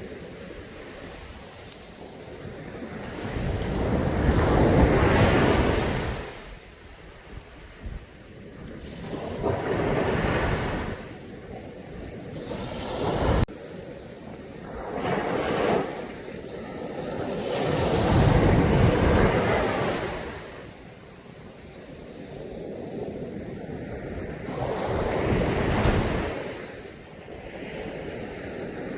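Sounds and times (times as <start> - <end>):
sea waves breaking on a beach: 0.0 - 28.9.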